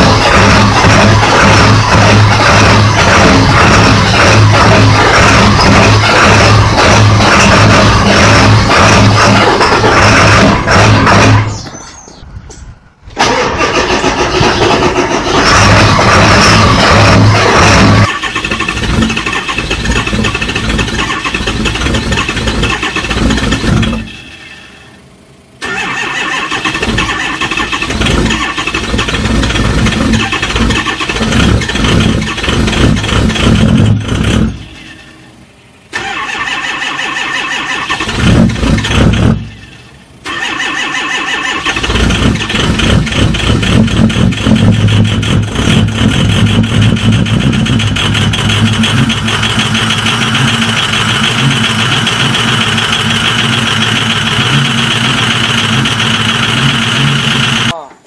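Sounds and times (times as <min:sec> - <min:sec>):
engine starting and running roughly: 0:00.0 - 0:12.2, 0:13.1 - 0:57.8.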